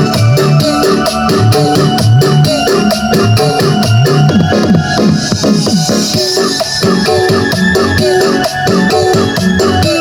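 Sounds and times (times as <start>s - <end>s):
keyboard-led music with heavy bass: 0.0s - 10.0s.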